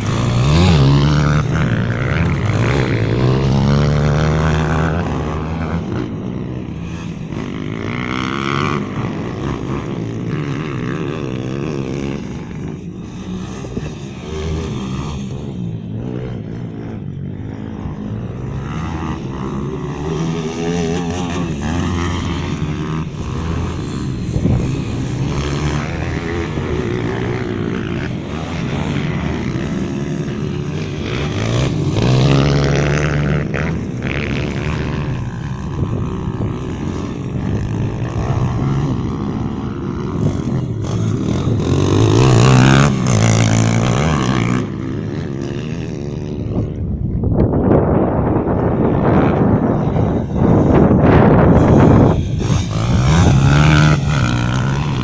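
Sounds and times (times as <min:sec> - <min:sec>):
pit bike engines revving: 0:00.0 - 0:55.0.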